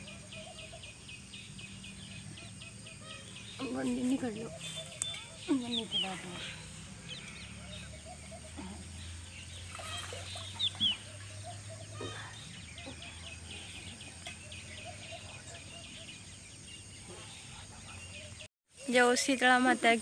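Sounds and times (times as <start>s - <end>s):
small bird chirps: 0.0s - 18.5s.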